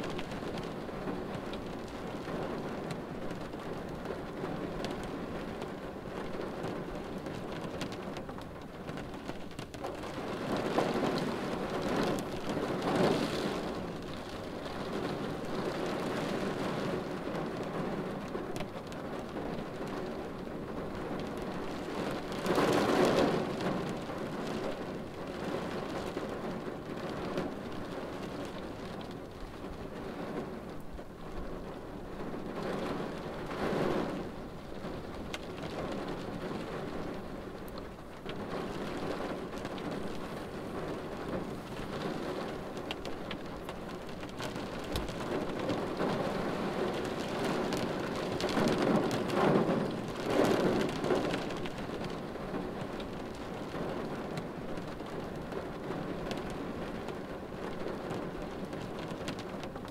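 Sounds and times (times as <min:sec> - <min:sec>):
rain pattering on windshield: 0:00.0 - 0:59.9.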